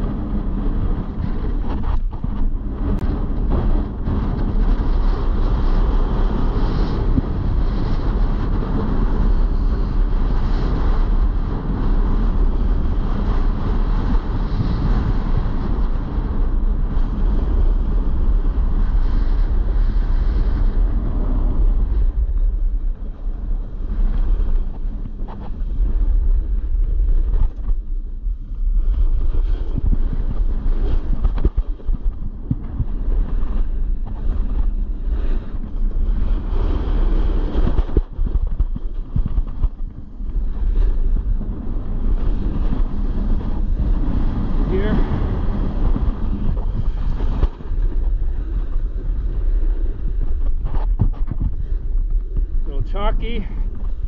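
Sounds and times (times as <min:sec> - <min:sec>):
wind on microphone: 0:00.0 - 0:54.0
snowboard scraping on snow: 0:00.1 - 0:54.0.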